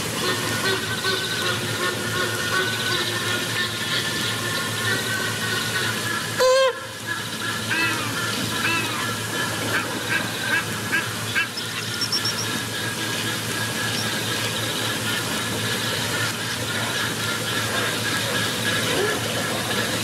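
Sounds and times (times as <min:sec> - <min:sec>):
birds honking: 0:00.0 - 0:20.0.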